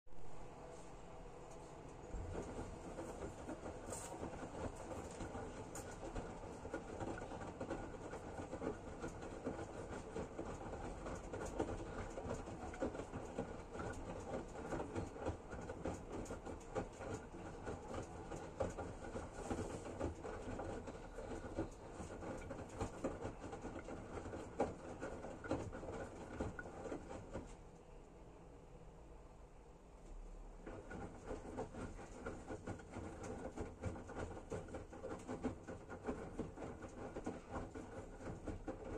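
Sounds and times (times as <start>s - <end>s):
washing machine churning: 0.2s - 28.0s, 30.1s - 38.9s.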